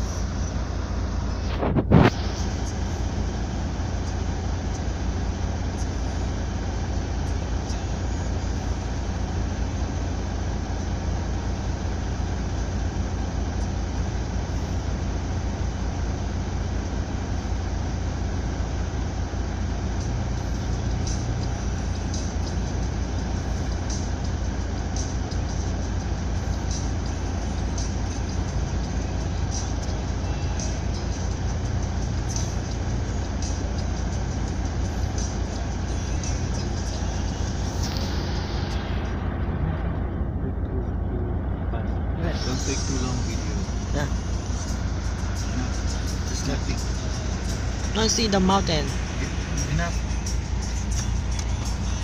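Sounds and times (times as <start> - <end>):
ship engine rumbling: 0.0 - 52.0.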